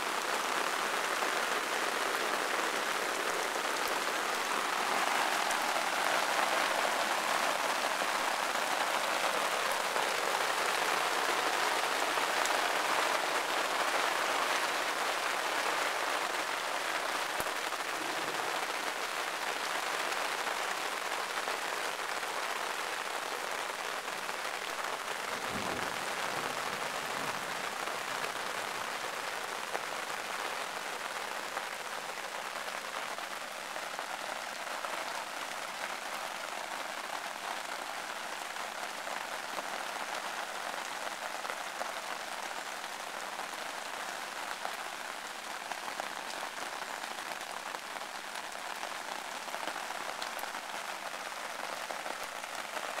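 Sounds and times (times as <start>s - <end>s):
heavy rain hiss: 0.0s - 53.0s.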